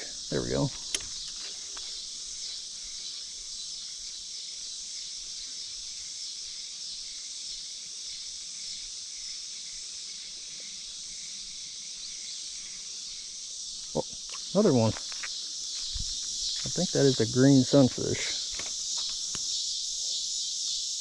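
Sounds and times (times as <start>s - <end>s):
crickets chirping: 0.0s - 21.0s
insects chirping: 0.0s - 21.0s.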